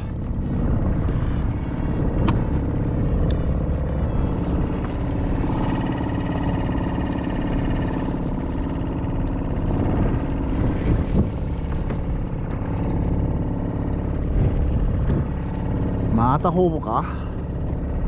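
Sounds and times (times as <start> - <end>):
outboard motor droning: 0.0 - 18.0.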